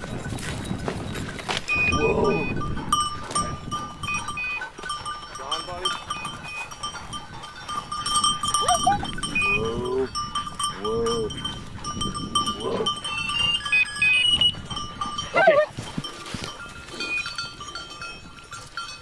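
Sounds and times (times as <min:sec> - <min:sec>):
dog collar bells jingling: 0:00.0 - 0:19.0.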